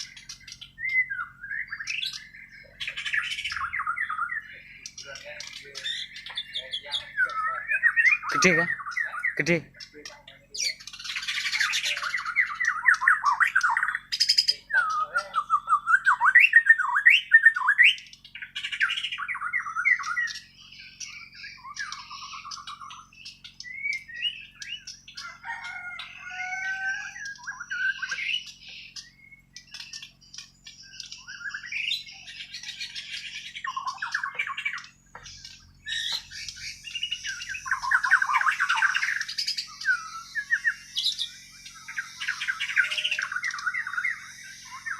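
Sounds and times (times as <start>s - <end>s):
bird singing whistles and chatter: 0.0s - 44.9s.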